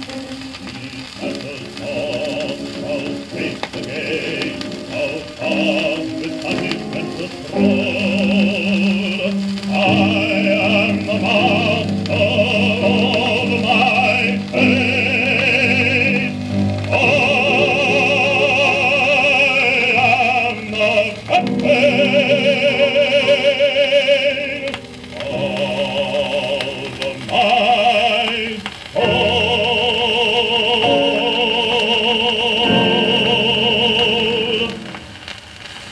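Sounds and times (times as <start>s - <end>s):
baritone singing with vibrato: 0.0s - 35.2s
musical accompaniment: 0.0s - 35.9s.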